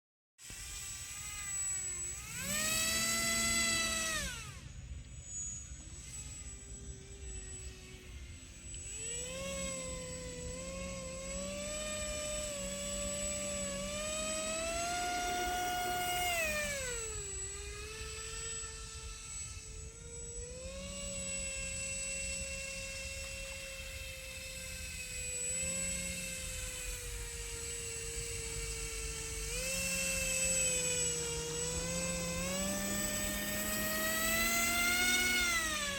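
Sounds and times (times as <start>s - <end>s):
model airboat motor and propeller: 0.4s - 35.9s
steady high whine: 0.4s - 35.9s.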